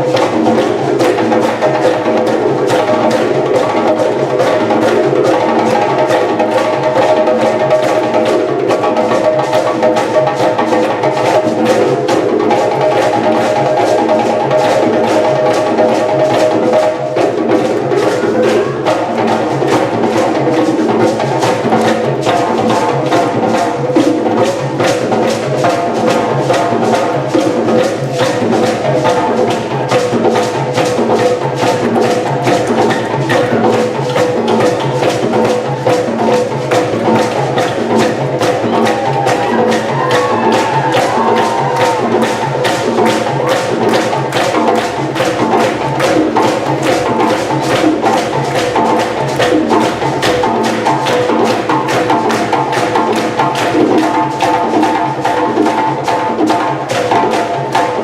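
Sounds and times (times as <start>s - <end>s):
drum ensemble playing: 0.0s - 58.0s.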